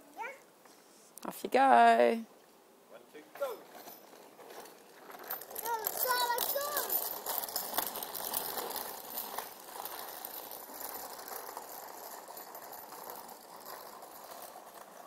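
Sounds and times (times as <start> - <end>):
scooter wheels rattling over asphalt: 1.6 - 15.0.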